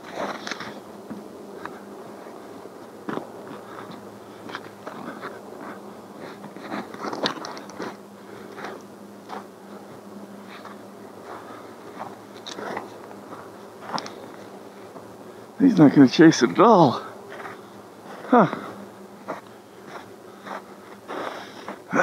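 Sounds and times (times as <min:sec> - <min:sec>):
footsteps crunching in snow: 0:00.0 - 0:21.9
faint steady hum: 0:00.0 - 0:22.0.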